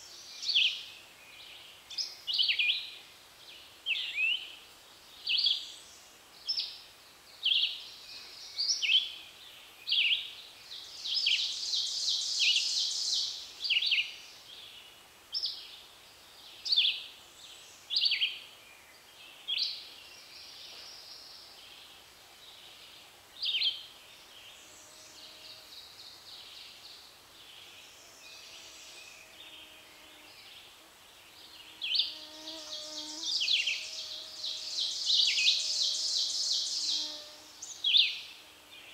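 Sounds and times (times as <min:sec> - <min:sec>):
songbirds singing: 0:05.1 - 0:38.9.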